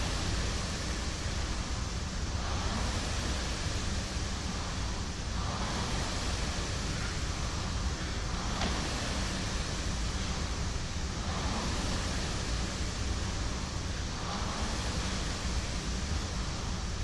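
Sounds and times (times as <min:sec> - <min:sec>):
rowing machine flywheel whooshing: 0:00.0 - 0:17.0.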